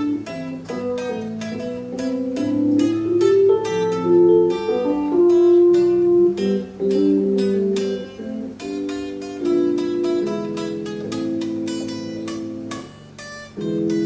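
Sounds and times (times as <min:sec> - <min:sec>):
electric guitar melody: 0:00.0 - 0:14.0
keyboard accompaniment: 0:00.0 - 0:14.0.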